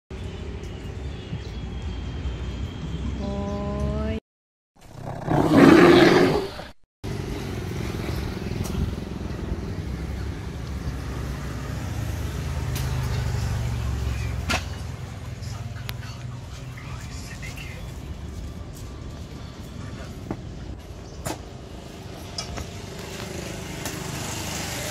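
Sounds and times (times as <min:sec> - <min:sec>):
traffic rumble: 0:04.9 - 0:24.9.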